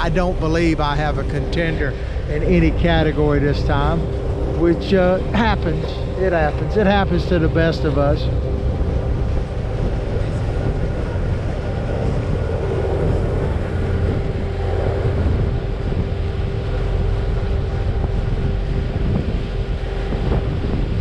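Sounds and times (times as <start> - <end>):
boat engines humming: 0.0 - 21.0
wind rumbling on microphone: 0.0 - 21.0.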